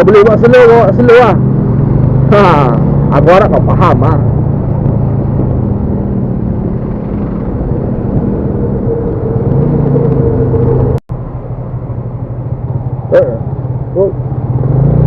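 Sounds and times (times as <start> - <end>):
road and wind noise: 0.0 - 15.0
motorcycle engine running: 0.7 - 14.7.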